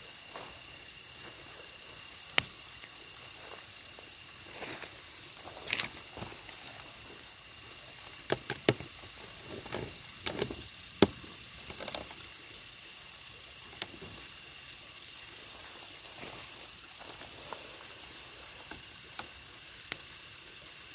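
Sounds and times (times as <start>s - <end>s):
campfire crackling: 0.1s - 20.9s.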